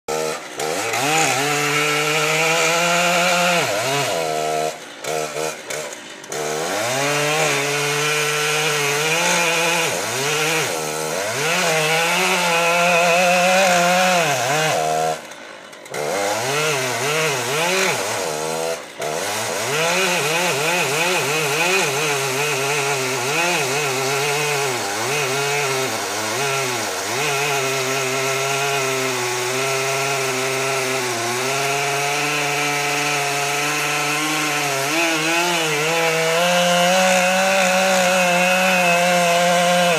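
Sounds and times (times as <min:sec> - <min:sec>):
chainsaw cutting wood: 0:00.1 - 0:39.9.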